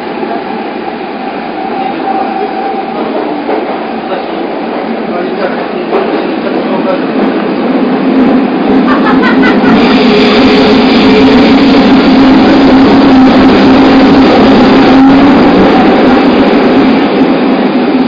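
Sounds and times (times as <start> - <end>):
train wheel and track noise: 0.0 - 18.0.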